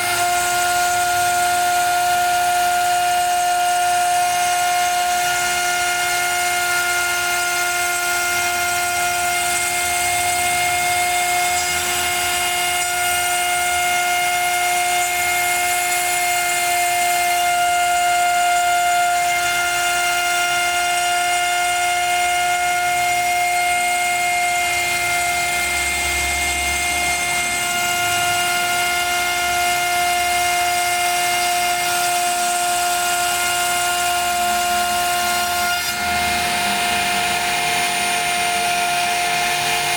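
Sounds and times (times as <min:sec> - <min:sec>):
bit cutting wood rushing noise: 0:00.0 - 0:39.9
router spindle whine: 0:00.0 - 0:39.9.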